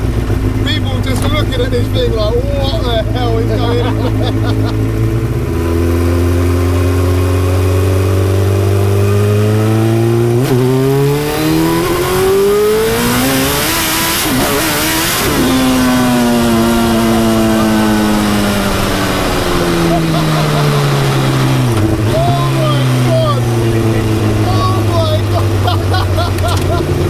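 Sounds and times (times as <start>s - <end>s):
turbocharged engine revving: 0.0s - 27.0s.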